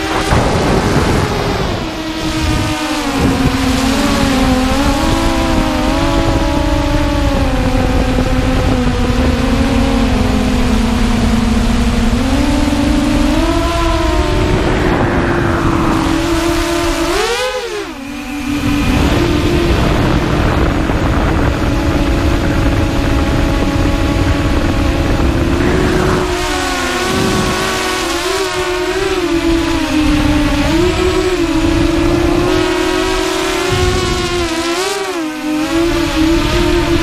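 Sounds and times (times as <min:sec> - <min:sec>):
drone motors whining: 0:00.0 - 0:37.0
wind noise on microphone: 0:00.0 - 0:37.0.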